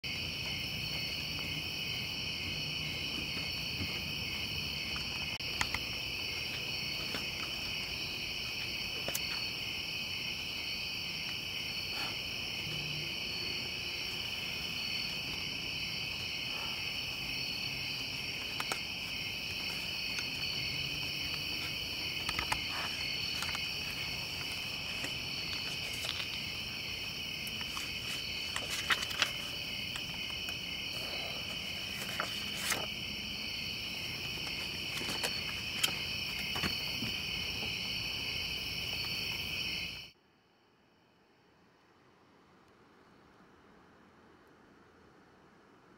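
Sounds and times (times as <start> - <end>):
night insects trilling: 0.0 - 41.6.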